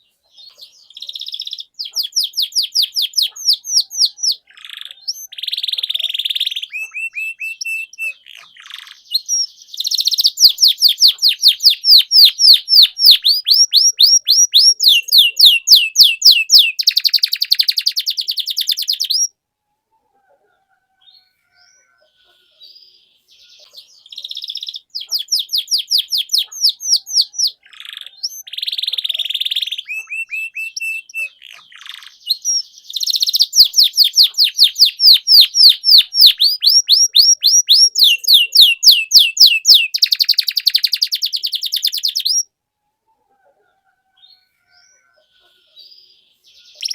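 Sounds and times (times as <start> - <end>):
canary singing trills: 0.0 - 19.4, 20.1 - 42.6, 43.6 - 46.9.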